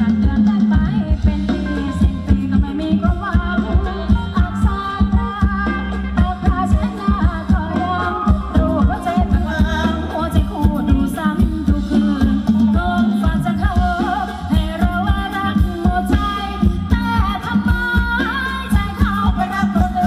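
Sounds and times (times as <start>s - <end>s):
person singing: 0.0s - 20.0s
steady drum beat and bass: 0.0s - 20.0s.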